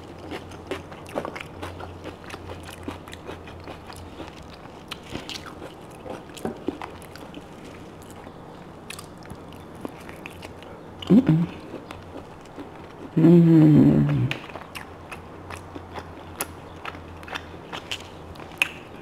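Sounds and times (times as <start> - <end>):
person chewing and biting: 0.0 - 13.1, 14.3 - 19.0.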